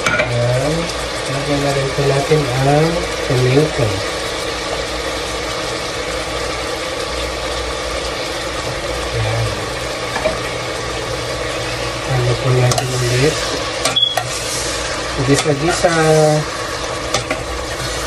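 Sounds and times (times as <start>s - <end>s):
meat sizzling in hot oil: 0.0s - 18.0s.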